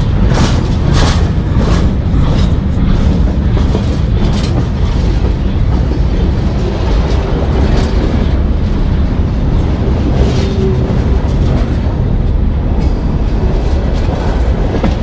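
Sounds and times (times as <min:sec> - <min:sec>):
train cars rolling rumble: 0:00.0 - 0:15.0
train wheel clacks: 0:00.0 - 0:15.0.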